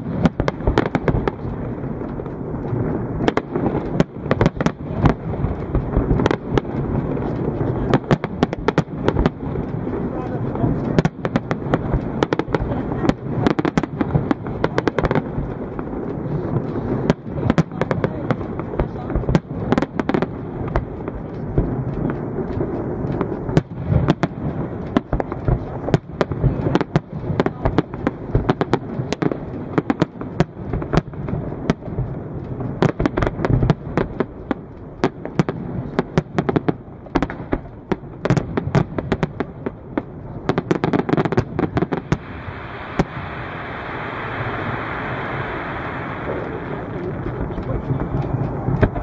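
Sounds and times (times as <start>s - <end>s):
continuous rumble: 0.0s - 49.0s.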